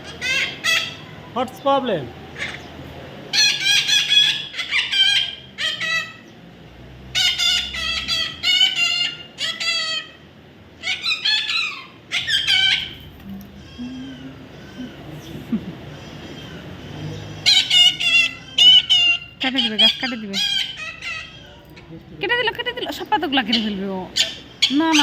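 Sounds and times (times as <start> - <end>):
baby parrot calling: 0.0 - 1.2, 2.3 - 6.3, 7.1 - 25.0.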